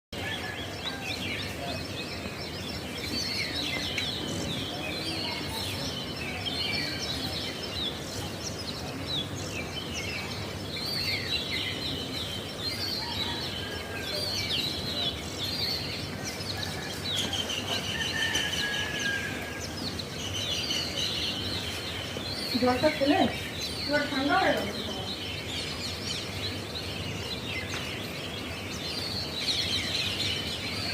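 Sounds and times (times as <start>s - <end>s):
small birds chirping: 0.1s - 30.9s
low background noise: 0.2s - 30.9s.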